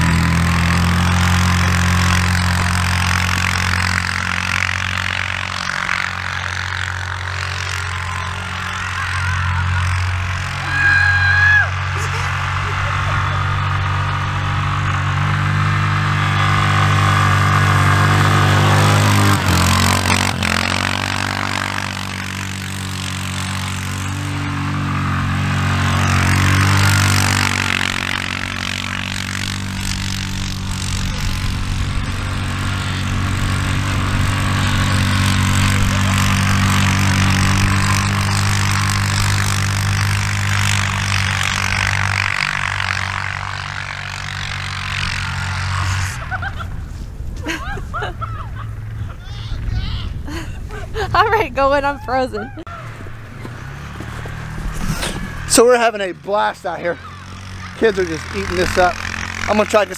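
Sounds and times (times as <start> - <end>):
atv engine running: 0.0 - 59.9
tube skidding over snow: 0.0 - 59.9.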